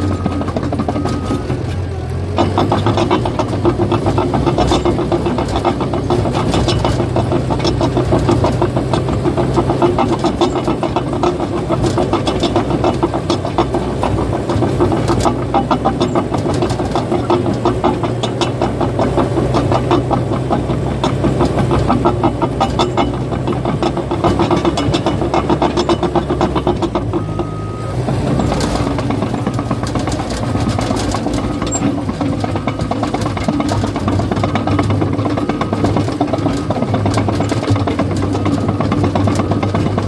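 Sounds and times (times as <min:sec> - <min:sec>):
diesel engine running: 0:00.0 - 0:40.0
steel tracks clattering: 0:00.0 - 0:40.0.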